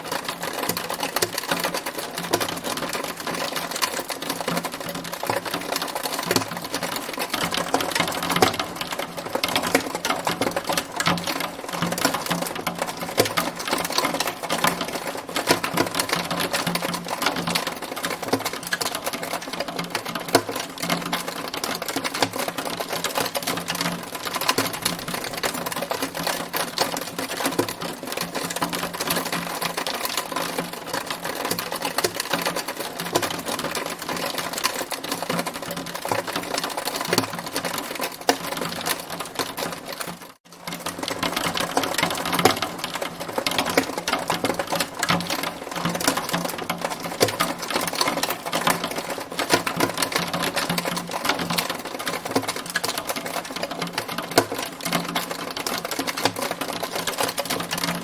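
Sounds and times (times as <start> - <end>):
hailstones pelting hard surfaces: 0.0 - 58.0.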